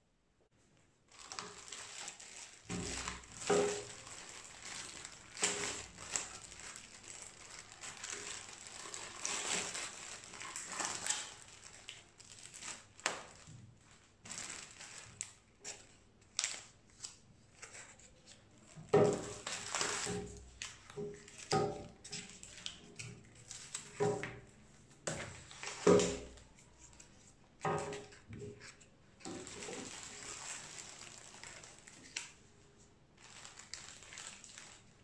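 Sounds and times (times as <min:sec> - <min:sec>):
plastic bags crinkling: 0:01.1 - 0:35.0.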